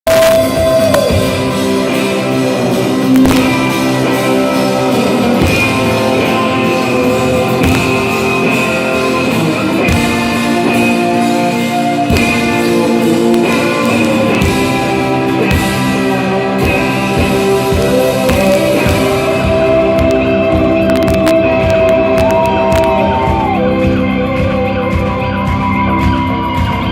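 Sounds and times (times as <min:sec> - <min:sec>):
electric guitar: 0:00.0 - 0:26.9
live rock band playing: 0:00.0 - 0:26.9.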